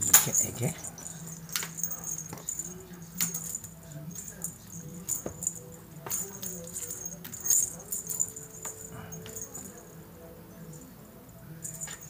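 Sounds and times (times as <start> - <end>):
toy jingling and rattling: 0.0 - 10.0, 10.6 - 12.0.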